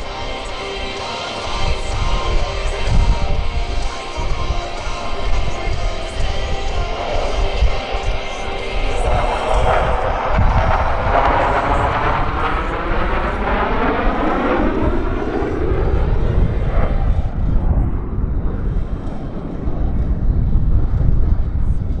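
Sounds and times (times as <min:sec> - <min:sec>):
jet flying past: 0:00.0 - 0:22.0.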